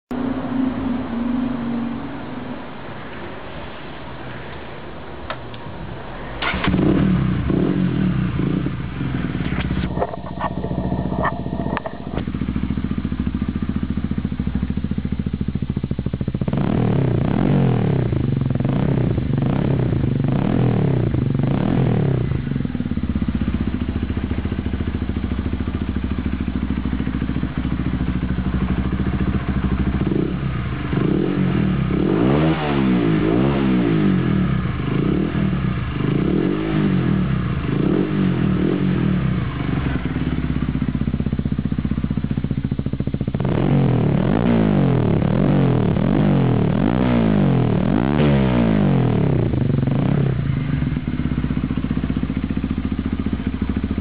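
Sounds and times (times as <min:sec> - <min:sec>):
motorcycle engine revving: 0:05.9 - 0:54.0.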